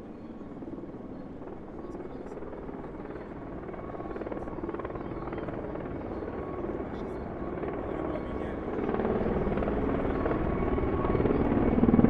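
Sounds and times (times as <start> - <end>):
distant helicopter rotor beat: 0.0 - 12.0.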